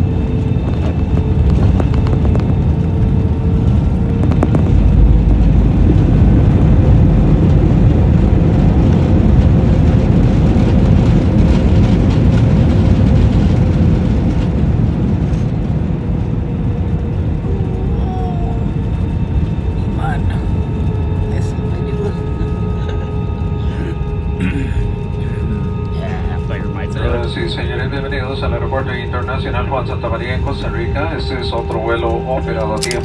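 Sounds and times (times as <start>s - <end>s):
deep rumble of plane rolling: 0.0s - 33.0s
jet engine hum: 0.0s - 33.0s.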